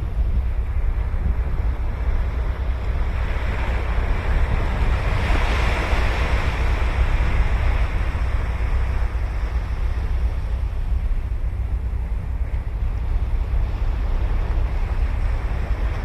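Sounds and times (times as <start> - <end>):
ocean surf on a beach: 0.0 - 16.0
wind rumble on microphone: 0.0 - 16.0.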